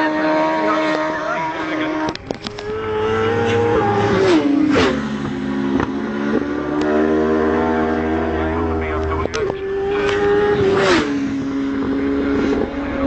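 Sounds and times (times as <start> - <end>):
superbike engine passing: 0.0 - 13.0.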